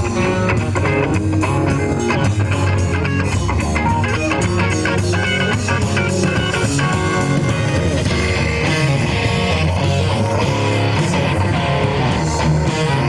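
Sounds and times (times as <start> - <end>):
bass guitar: 0.0 - 13.0
electric guitars: 0.0 - 13.0.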